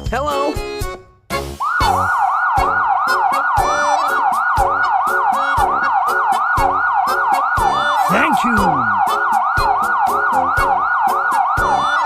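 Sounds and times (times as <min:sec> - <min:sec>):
emergency siren yelping: 0:01.6 - 0:12.0.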